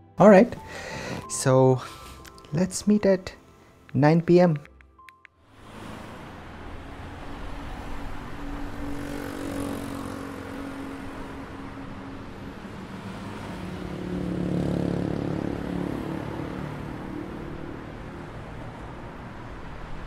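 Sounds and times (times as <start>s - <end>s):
steady hum of cars: 0.0s - 20.0s
vehicles passing: 0.2s - 20.0s.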